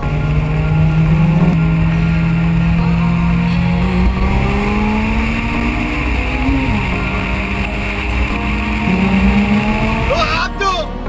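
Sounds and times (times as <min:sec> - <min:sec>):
car engine accelerating: 0:00.0 - 0:11.0
road and wind noise: 0:00.0 - 0:11.0.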